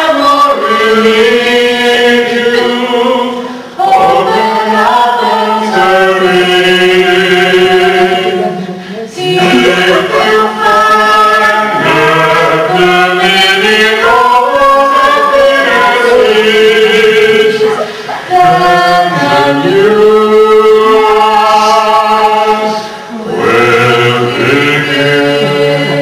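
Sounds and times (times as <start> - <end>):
voices singing slow melody: 0.0 - 26.0.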